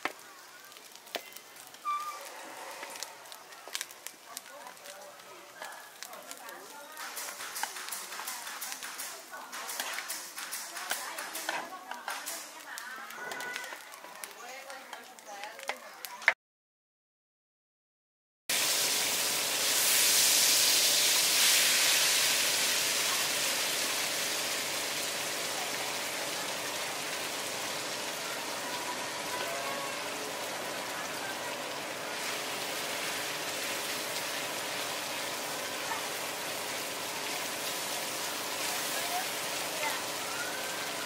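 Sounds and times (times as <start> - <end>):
potato sizzling in hot oil: 0.0 - 16.2, 18.5 - 41.0.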